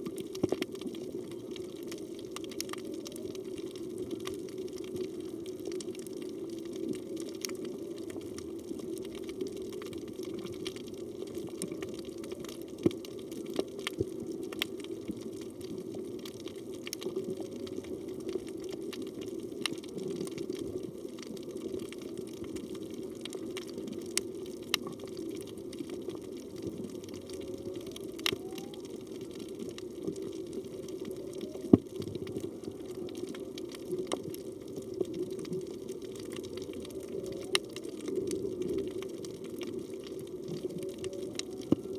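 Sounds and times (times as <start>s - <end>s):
steady underwater noise: 0.0s - 41.9s.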